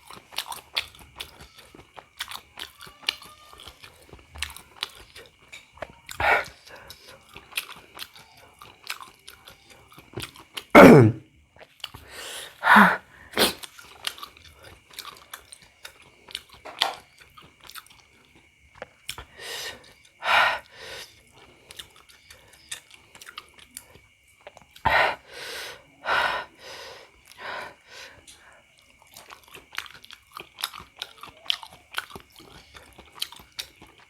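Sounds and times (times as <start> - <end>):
wet chewing mouth noises: 0.0 - 10.9, 13.3 - 24.9, 28.2 - 34.0.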